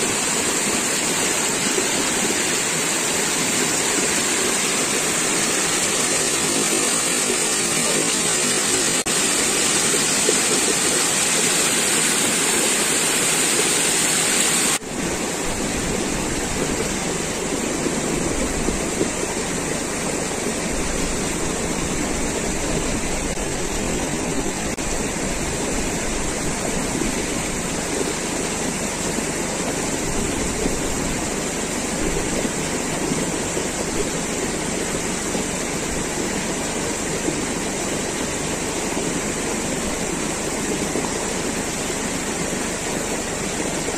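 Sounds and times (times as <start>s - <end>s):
stream rushing over rocks: 0.0s - 43.9s.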